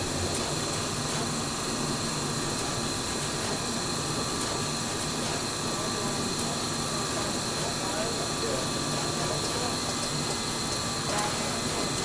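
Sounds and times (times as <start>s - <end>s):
machine whirring and hissing: 0.0s - 12.0s.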